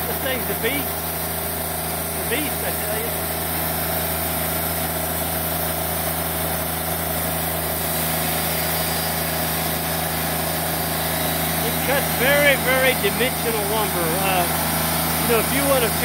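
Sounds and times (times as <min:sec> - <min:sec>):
band sawmill sawing log: 0:00.0 - 0:16.0.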